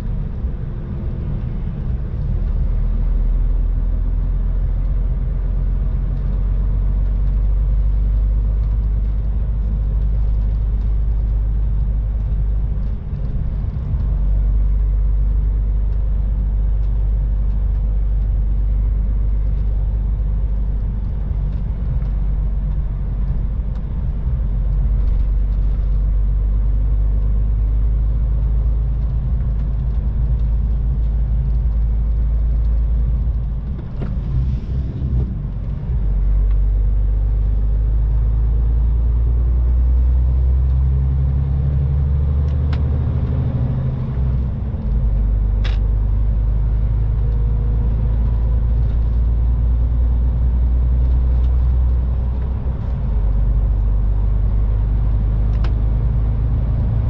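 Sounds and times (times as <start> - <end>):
road noise: 0.0 - 57.0
truck engine drone: 0.0 - 57.0.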